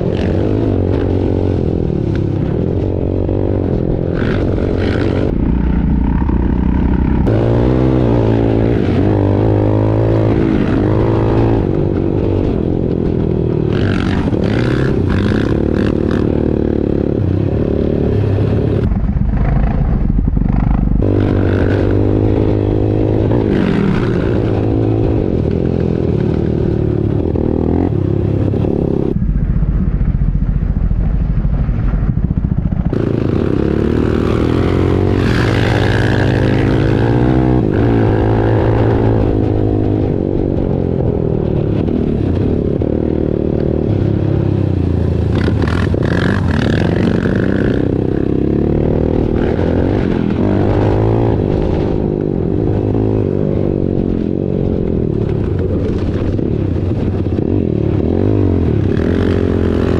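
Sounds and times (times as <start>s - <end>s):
quad bike engine revving: 0.0s - 29.2s, 32.8s - 59.9s.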